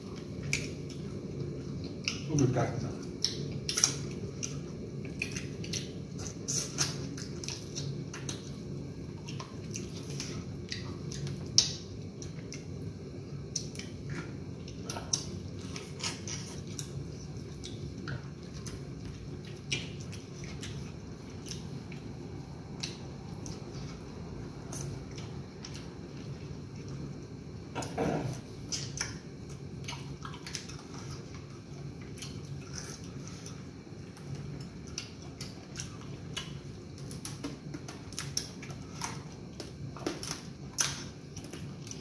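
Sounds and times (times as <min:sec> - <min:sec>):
wet chewing and smacking: 0:00.0 - 0:27.8, 0:28.5 - 0:42.0
steady low hum: 0:00.0 - 0:42.0.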